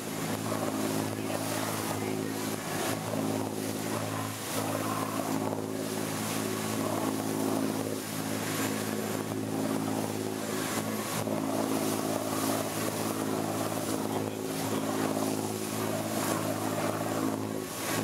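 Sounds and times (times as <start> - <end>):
boat engine humming: 0.0 - 18.0
wind and water hiss: 0.0 - 18.0.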